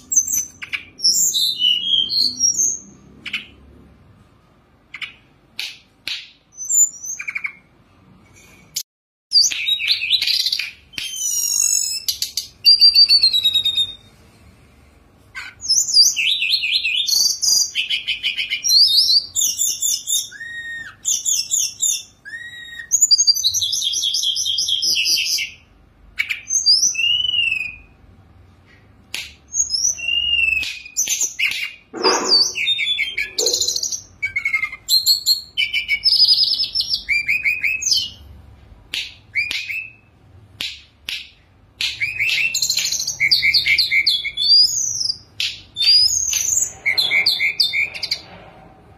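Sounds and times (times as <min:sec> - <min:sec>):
bird singing trills and whistles: 0:00.0 - 0:03.6, 0:04.9 - 0:07.7, 0:09.3 - 0:14.1, 0:15.3 - 0:28.0, 0:29.5 - 0:38.2, 0:39.0 - 0:40.1, 0:41.1 - 0:48.2.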